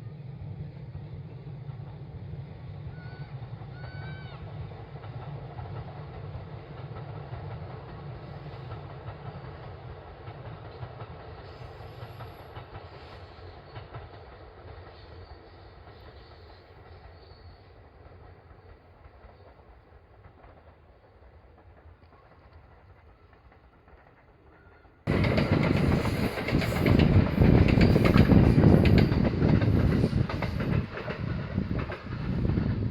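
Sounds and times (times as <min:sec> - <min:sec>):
electric train rumbling: 0:00.0 - 0:32.9.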